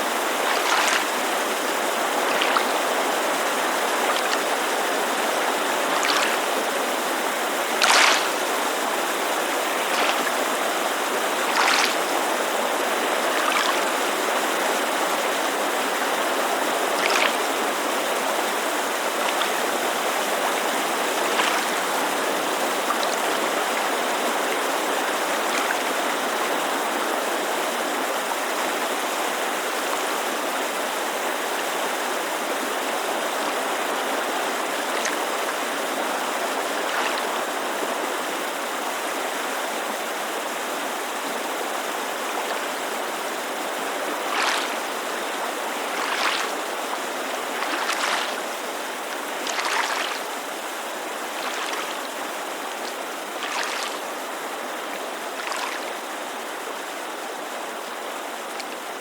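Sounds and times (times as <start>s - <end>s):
creek rushing: 0.0s - 59.0s
small waves lapping at shore: 0.0s - 59.0s.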